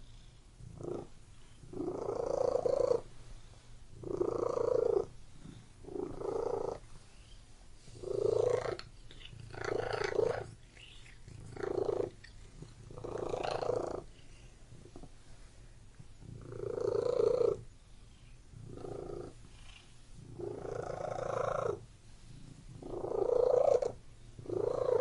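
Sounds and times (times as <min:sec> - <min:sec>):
cat purring: 0:00.0 - 0:03.3, 0:03.9 - 0:25.0.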